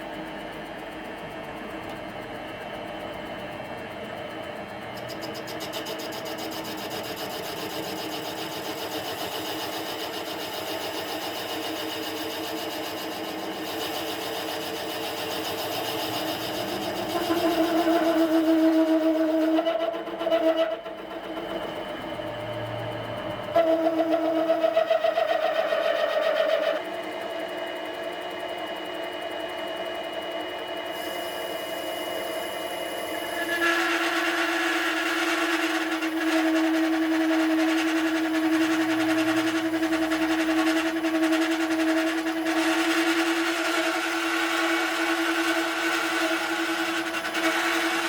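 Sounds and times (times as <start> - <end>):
metal lathe motor whine: 0.1 - 48.0.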